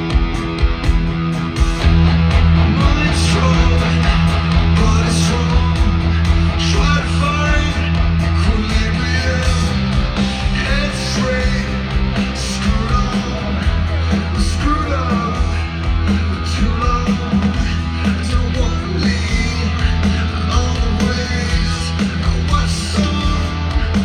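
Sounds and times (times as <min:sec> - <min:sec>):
rock song with singing: 0:00.0 - 0:24.0.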